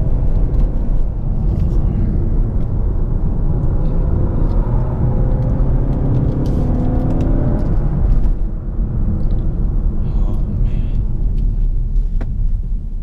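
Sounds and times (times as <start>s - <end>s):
car engine accelerating: 0.0s - 12.7s.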